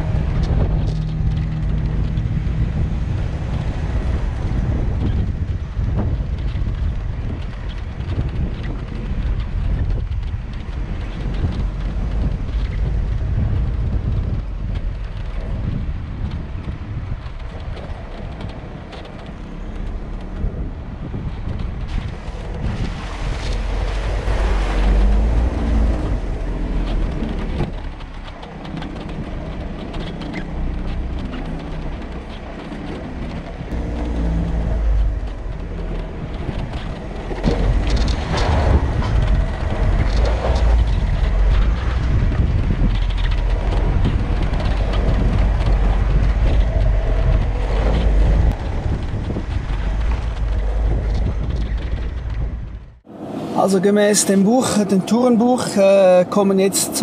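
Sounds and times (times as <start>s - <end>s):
knocks and rattles: 0.0s - 53.1s
vehicle engine rumble: 0.0s - 57.0s.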